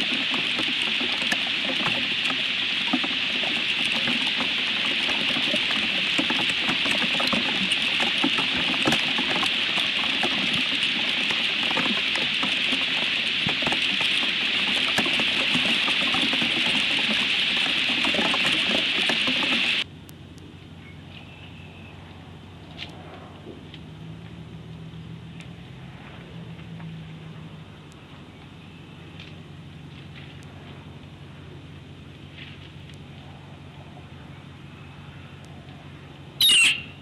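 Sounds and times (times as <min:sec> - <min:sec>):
hail hissing and ticking on branches: 0:00.0 - 0:19.9, 0:22.4 - 0:37.0.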